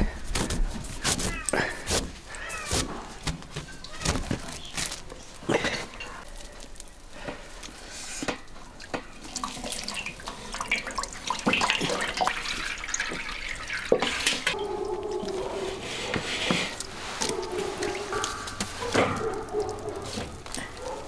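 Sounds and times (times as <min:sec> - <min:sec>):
water running and dripping: 0:03.5 - 0:21.0.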